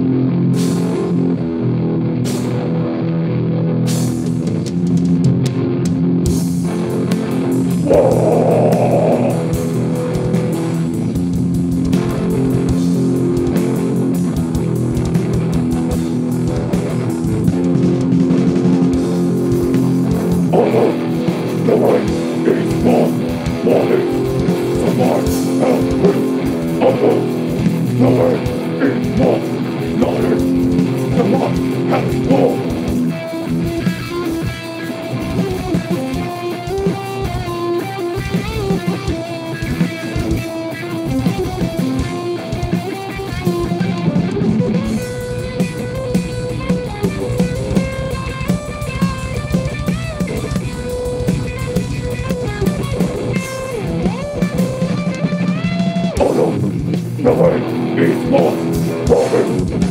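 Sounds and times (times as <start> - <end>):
electric guitar: 0.0 - 59.9.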